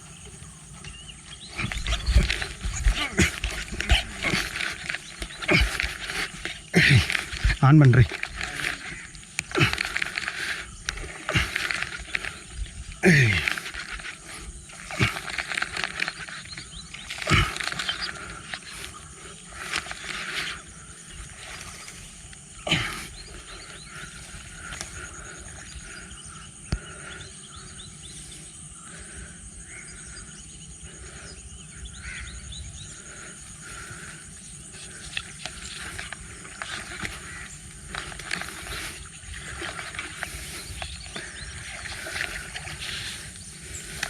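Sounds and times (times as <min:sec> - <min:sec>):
insects calling: 0:00.0 - 0:44.0.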